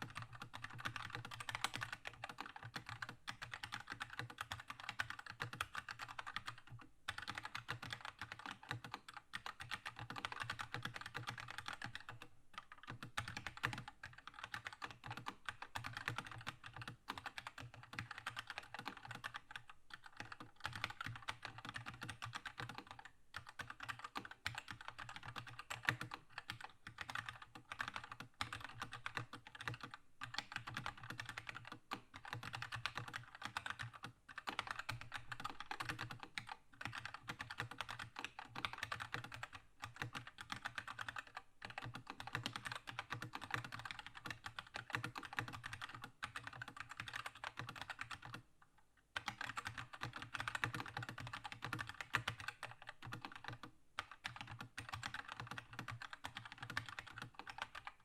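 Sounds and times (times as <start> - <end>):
mechanical keyboard typing: 0.0 - 48.4, 49.2 - 58.0.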